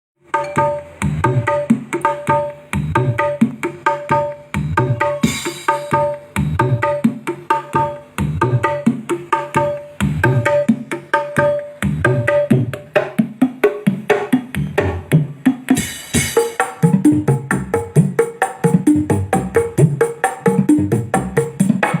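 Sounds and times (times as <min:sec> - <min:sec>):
hand percussion music from small speaker: 0:00.2 - 0:22.0.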